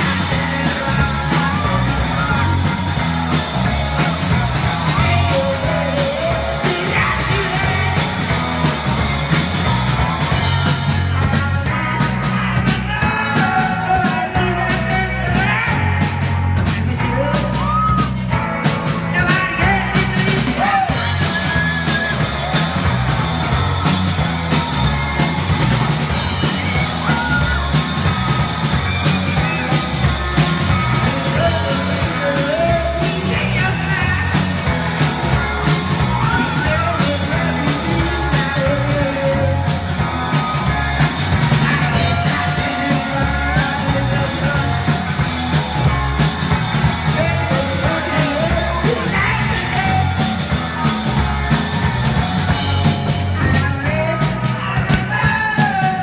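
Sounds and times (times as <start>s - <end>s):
person singing: 0.0s - 3.5s, 4.2s - 8.7s, 10.3s - 18.2s, 19.1s - 22.6s, 26.3s - 46.0s, 46.9s - 50.9s, 52.8s - 56.0s
drum kit: 0.0s - 56.0s
electric guitars: 0.0s - 56.0s.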